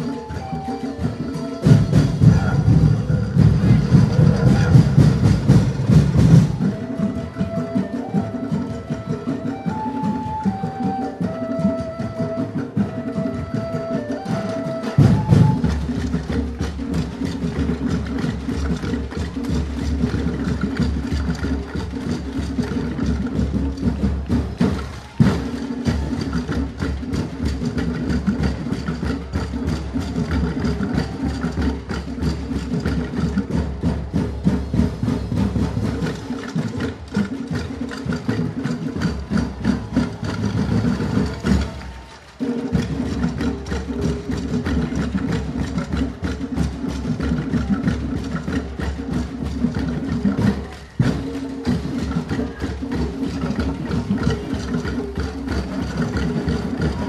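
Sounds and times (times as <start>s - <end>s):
big drums fast beat: 0.0s - 57.0s.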